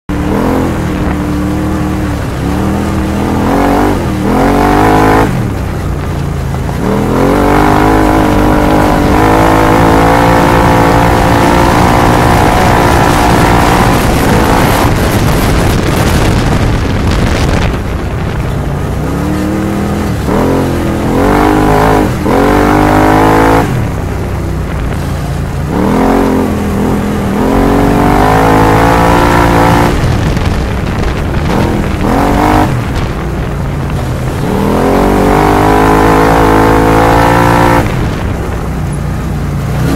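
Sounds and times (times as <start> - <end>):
engine revving under load: 0.1 - 5.8, 6.6 - 24.0, 24.6 - 38.7.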